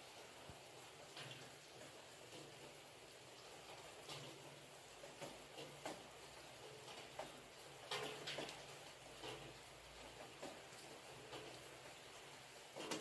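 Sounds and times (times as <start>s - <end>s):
faint steady hiss: 0.0s - 13.0s
raindrops pattering: 0.0s - 13.0s.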